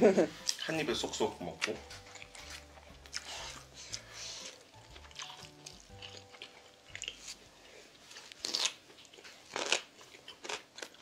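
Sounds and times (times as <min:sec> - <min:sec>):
crunchy chewing of food: 0:01.5 - 0:11.0.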